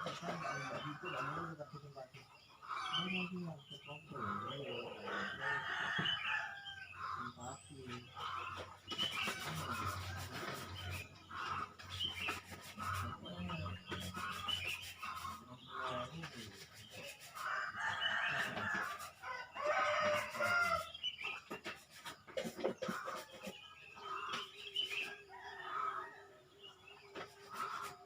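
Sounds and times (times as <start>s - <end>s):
roosters crowing: 0.0s - 1.8s, 4.2s - 28.0s
birds chirping: 0.0s - 28.0s.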